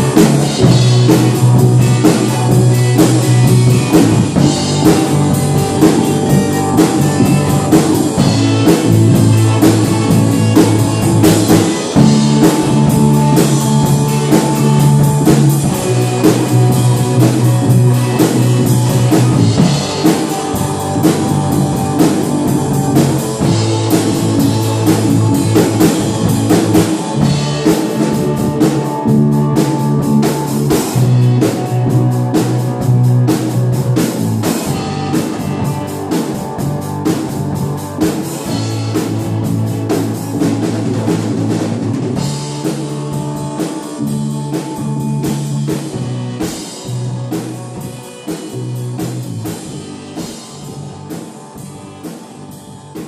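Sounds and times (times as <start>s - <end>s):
acoustic-electric guitar: 0.0s - 53.0s
bass guitar notes: 0.0s - 53.0s
drum kit beat: 0.0s - 53.0s
electric guitar: 0.0s - 53.0s.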